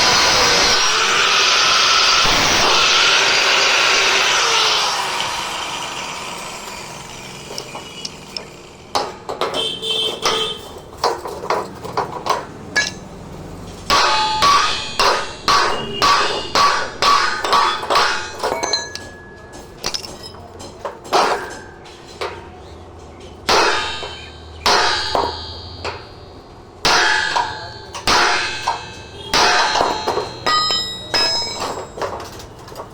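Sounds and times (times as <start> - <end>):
hammer striking metal: 0.0 - 11.6, 12.2 - 13.2, 13.8 - 20.4, 23.4 - 32.9.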